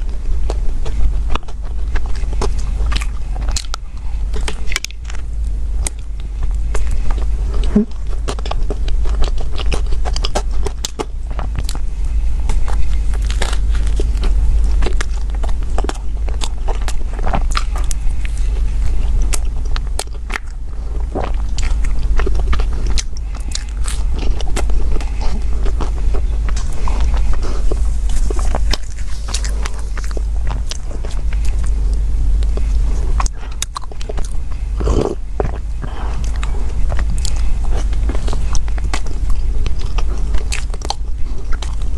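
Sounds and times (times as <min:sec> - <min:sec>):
chewing bread and pastry: 0:00.0 - 0:41.9
steady low hum: 0:00.0 - 0:41.9.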